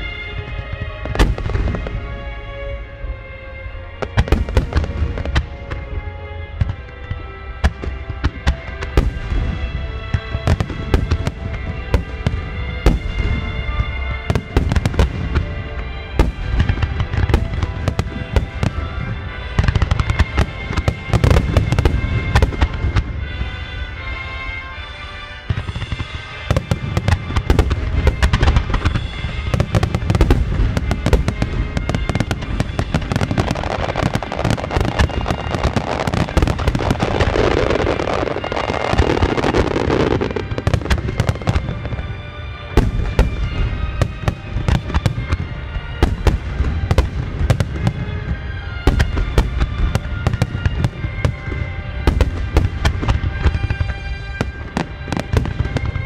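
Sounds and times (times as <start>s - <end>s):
fireworks booming and crackling: 0.0s - 56.0s
music: 0.0s - 56.0s.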